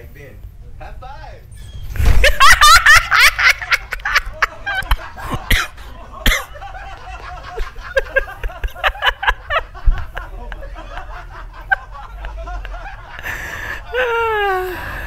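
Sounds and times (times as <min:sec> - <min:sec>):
man laughing hard: 0:02.2 - 0:14.8.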